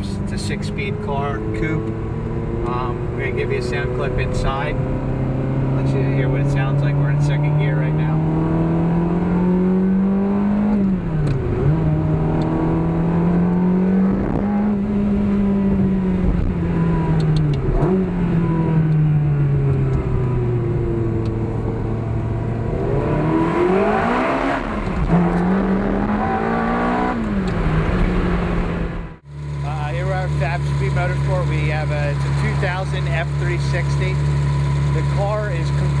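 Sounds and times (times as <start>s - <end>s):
car engine through gear changes: 0.0s - 36.0s.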